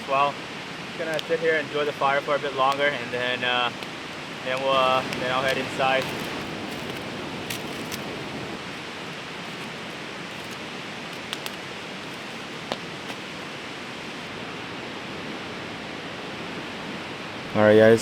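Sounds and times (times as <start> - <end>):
campfire crackling: 0.0 - 18.0
river rushing: 0.0 - 18.0.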